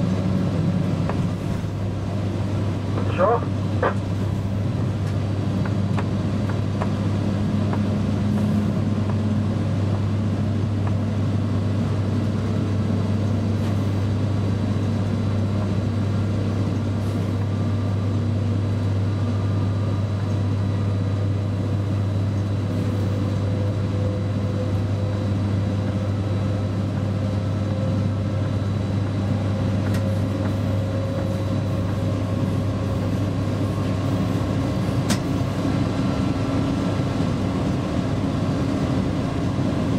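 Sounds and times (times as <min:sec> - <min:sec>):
locomotive cab running hum: 0:00.0 - 0:39.9.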